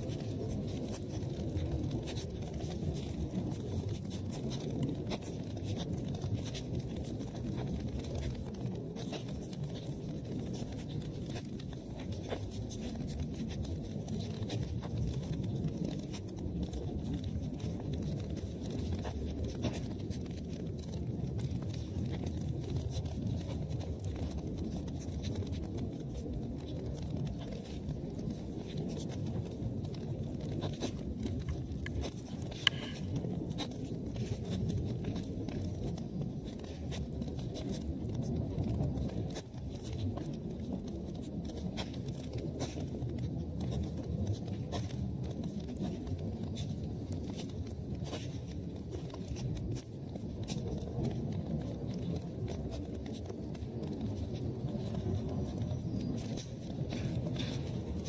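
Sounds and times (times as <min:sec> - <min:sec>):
fire crackling in fireplace: 0:00.0 - 0:58.0
low rumble of burning: 0:00.0 - 0:58.0.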